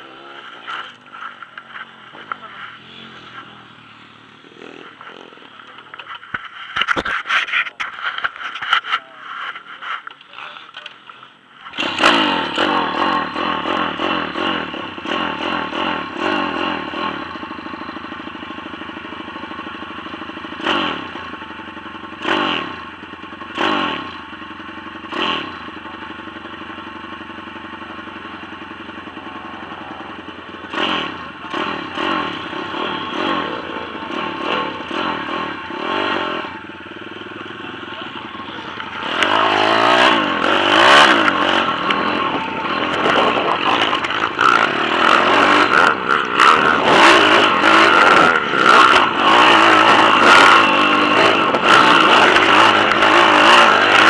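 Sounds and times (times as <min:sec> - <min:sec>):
pit bike engine revving: 0:00.0 - 0:06.6, 0:11.6 - 0:54.0.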